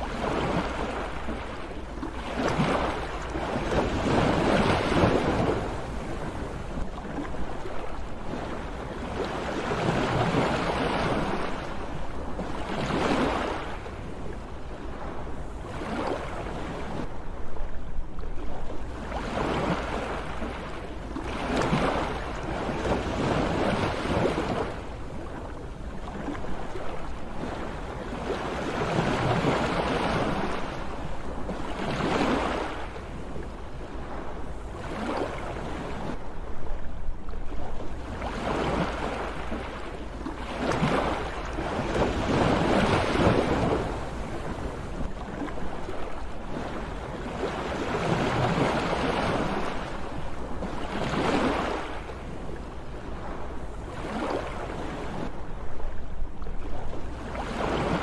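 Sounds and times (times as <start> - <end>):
sea waves on shore: 0.0 - 58.0.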